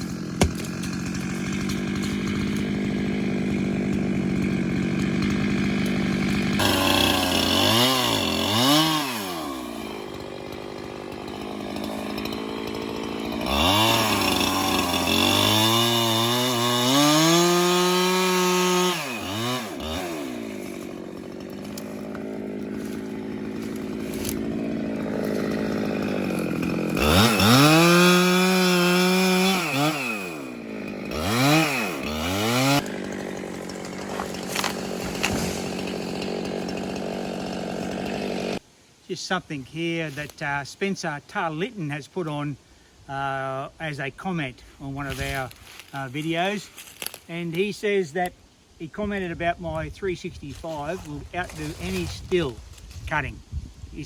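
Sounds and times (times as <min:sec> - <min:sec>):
chainsaw cutting wood: 0:00.0 - 0:38.7, 0:44.8 - 0:48.4, 0:49.0 - 0:53.3.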